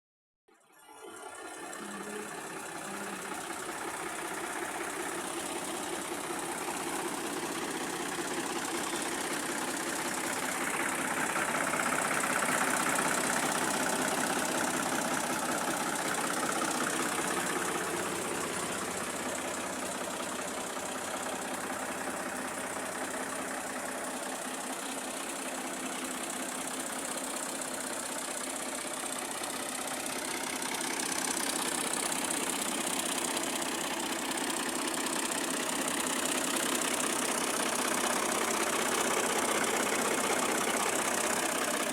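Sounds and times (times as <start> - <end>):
tractor diesel engine idling: 0.8 - 41.9.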